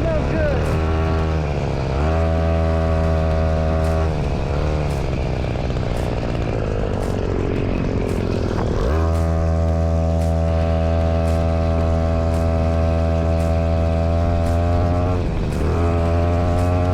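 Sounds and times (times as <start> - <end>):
engine running hard: 0.0 - 16.9.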